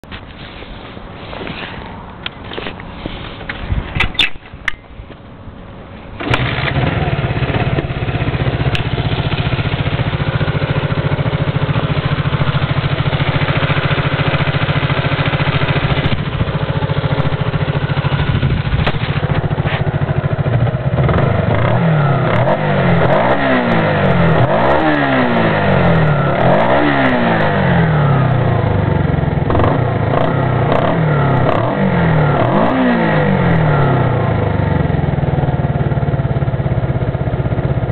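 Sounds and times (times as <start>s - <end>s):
motorcycle engine revving: 6.2s - 37.9s.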